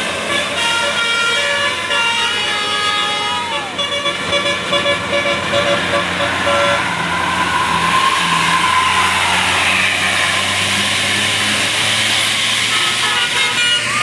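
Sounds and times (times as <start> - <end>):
bus passing: 0.0 - 14.0
musical air horn: 0.2 - 9.1, 9.8 - 14.0.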